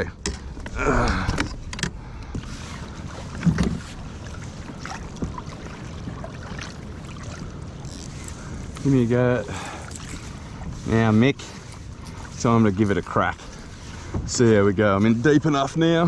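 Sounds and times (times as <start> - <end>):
water sloshing and splashing: 1.3 - 15.3.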